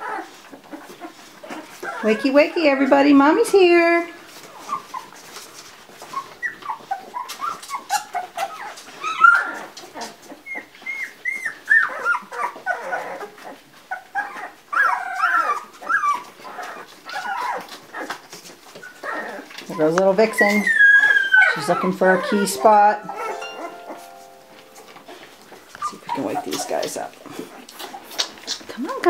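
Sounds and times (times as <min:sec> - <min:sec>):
puppies squeaking and whining: 0:00.0 - 0:29.0.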